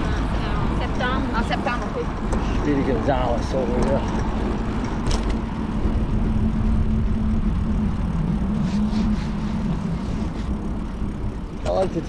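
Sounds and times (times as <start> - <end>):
bicycle rolling on pavement: 0.0 - 12.0
low steady hum: 0.0 - 12.0.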